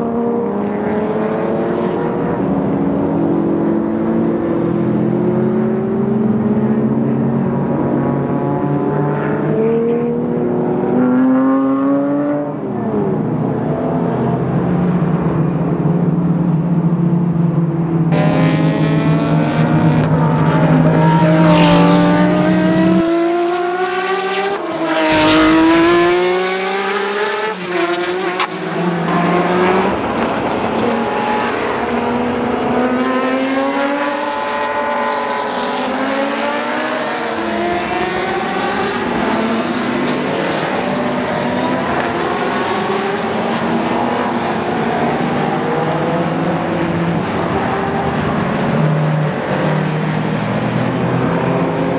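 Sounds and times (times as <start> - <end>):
race cars passing: 0.0 - 51.9.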